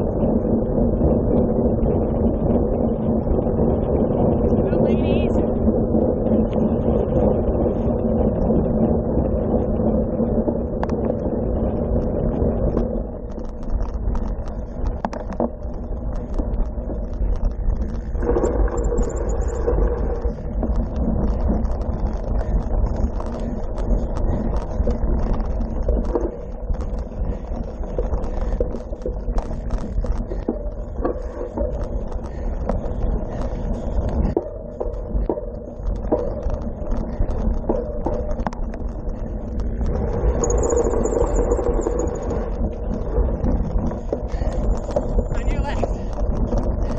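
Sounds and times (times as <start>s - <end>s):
steady hum: 0.0s - 46.9s
wind on microphone: 0.0s - 46.9s
bike clicks and rattles: 5.6s - 46.9s.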